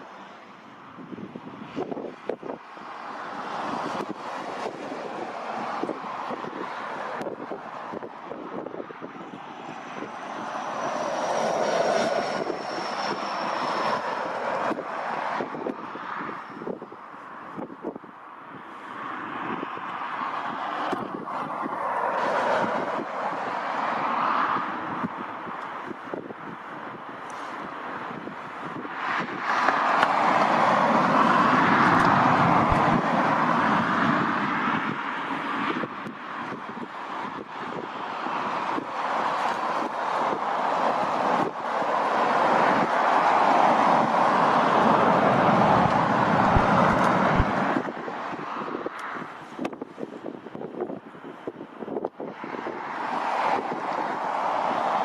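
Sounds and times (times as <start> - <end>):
jet engines passing: 0.0 - 50.2, 50.8 - 55.0
wind buffeting microphone: 0.7 - 55.0.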